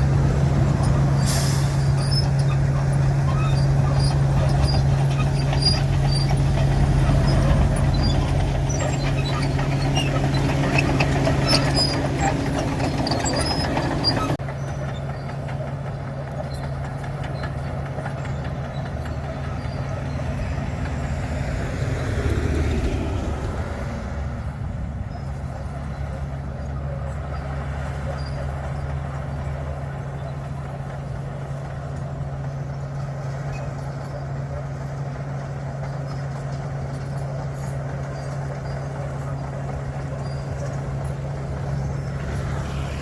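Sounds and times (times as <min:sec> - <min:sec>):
bulldozer diesel engine under load: 0:00.0 - 0:43.0
road surface crackling and scraping: 0:00.0 - 0:43.0.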